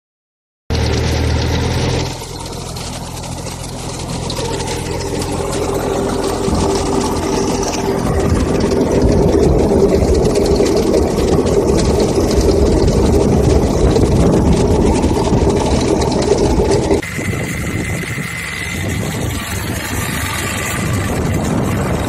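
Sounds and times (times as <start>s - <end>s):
tractor engine running: 0.7s - 22.0s.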